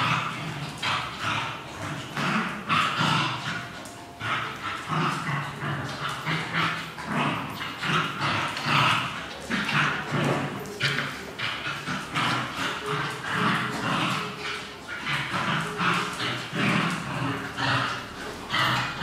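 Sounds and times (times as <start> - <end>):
dogs growling: 0.0 - 19.0
dogs yapping: 0.0 - 19.0.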